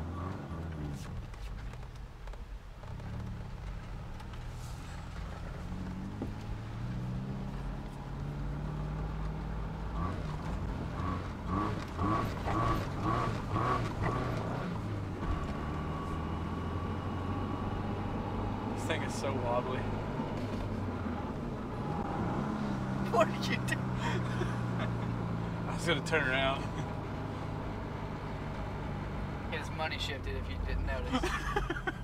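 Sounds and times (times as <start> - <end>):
car engine from inside cabin: 0.0 - 32.0.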